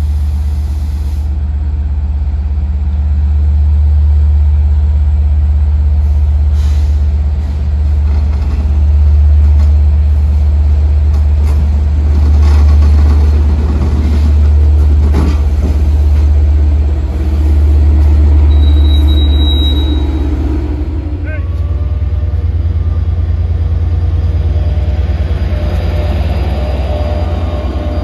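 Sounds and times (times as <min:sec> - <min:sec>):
diesel locomotive droning: 0:00.0 - 0:28.0.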